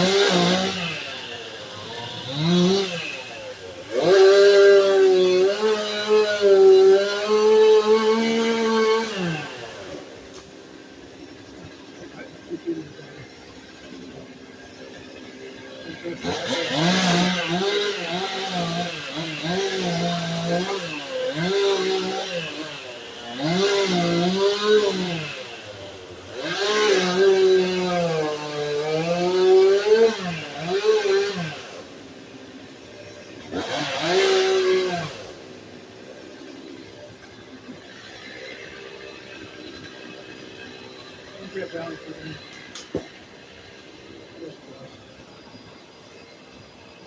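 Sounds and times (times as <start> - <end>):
chainsaw cutting wood: 0.0 - 46.4.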